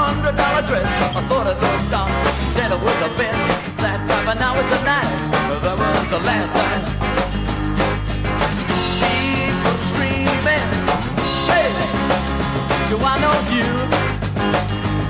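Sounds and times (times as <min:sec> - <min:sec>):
rock and roll band playing: 0:00.0 - 0:15.0.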